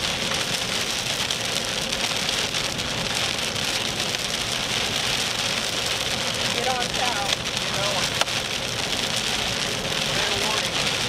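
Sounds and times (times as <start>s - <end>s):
car humming on the road: 0.0s - 11.0s
rain pelting a car: 0.0s - 11.0s.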